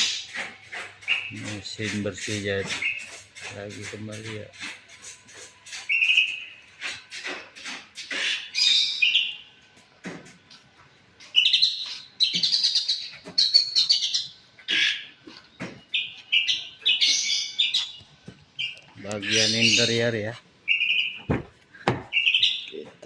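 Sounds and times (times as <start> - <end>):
small birds chirping: 0.0 - 9.6, 10.5 - 23.0.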